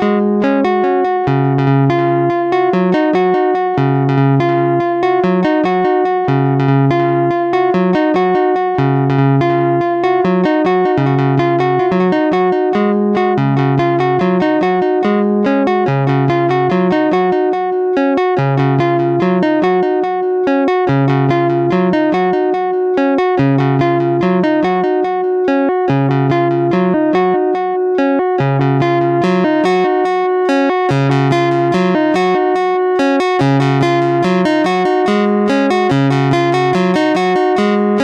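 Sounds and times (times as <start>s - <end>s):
plucky synth melody: 0.0s - 38.0s.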